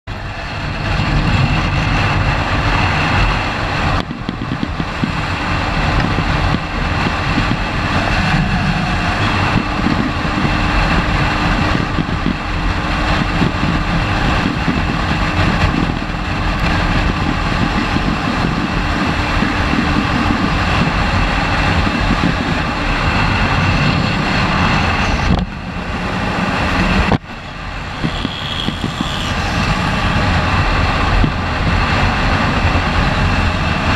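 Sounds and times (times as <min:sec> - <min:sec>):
motorcycle engine running hard: 0:00.1 - 0:33.9
wind rushing on microphone: 0:00.1 - 0:33.9.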